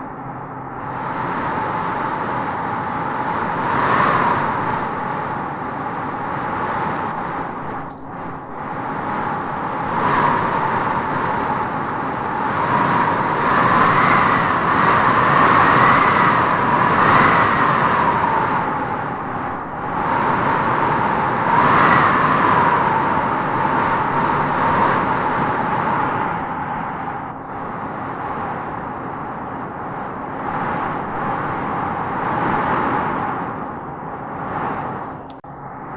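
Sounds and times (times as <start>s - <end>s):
wind howling: 0.0s - 35.9s.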